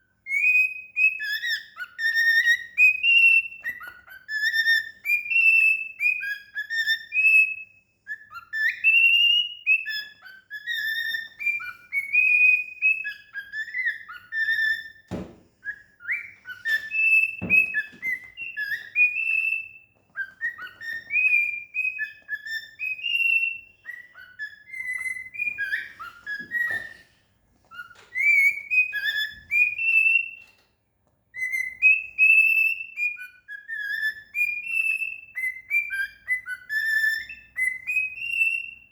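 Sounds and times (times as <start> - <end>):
cockatiel whistling: 0.2 - 30.6, 31.3 - 38.9.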